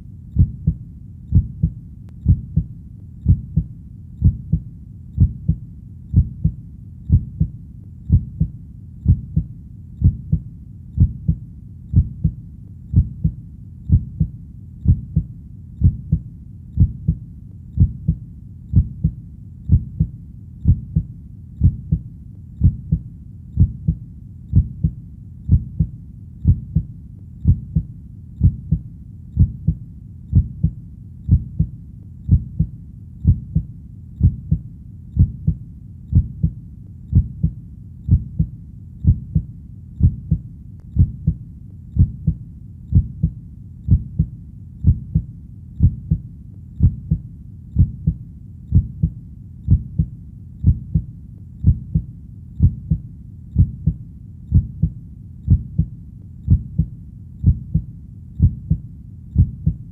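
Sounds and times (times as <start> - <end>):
low steady rumble: 0.0 - 59.9
heartbeat double thuds: 0.4 - 16.2, 16.8 - 17.2, 17.8 - 23.0, 23.6 - 28.8, 29.4 - 34.6, 35.2 - 41.4, 42.0 - 46.2, 46.8 - 47.2, 47.8 - 59.9.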